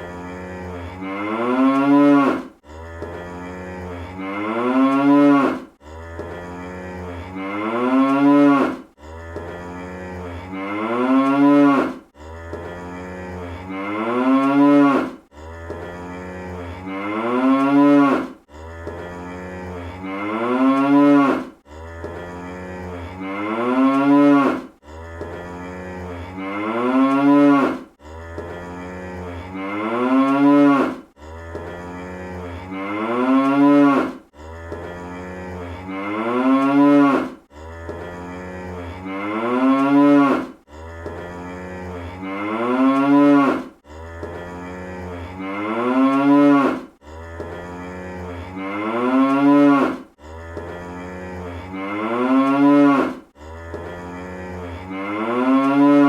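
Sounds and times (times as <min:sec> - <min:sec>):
cartoon cow mooing: 0:00.0 - 0:56.0.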